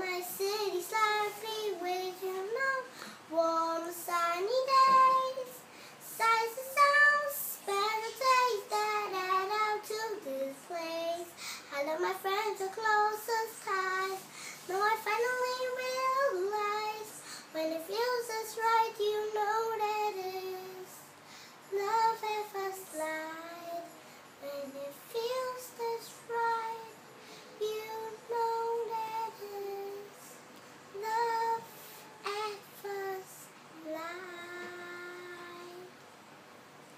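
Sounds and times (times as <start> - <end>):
girl singing: 0.0 - 36.0.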